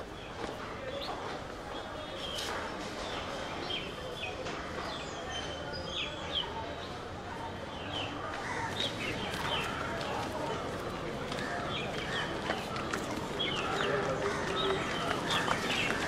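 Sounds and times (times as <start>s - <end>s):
outdoor ambient noise: 0.0s - 16.0s.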